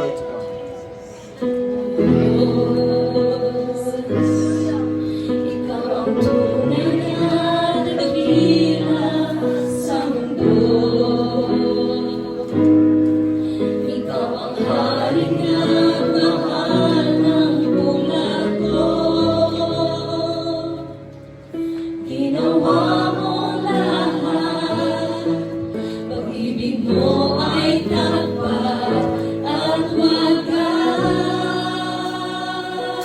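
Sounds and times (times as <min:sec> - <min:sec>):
choir singing gospel: 0:00.0 - 0:33.0.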